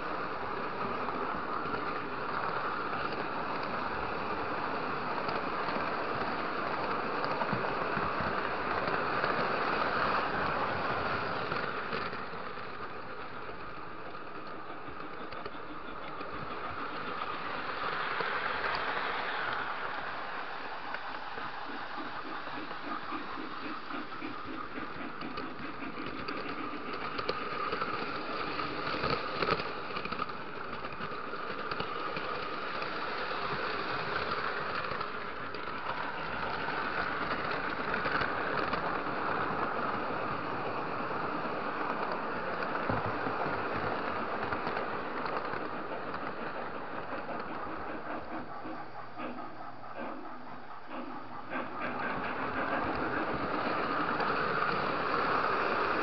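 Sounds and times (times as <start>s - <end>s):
model train rumble and whir: 0.0s - 56.0s.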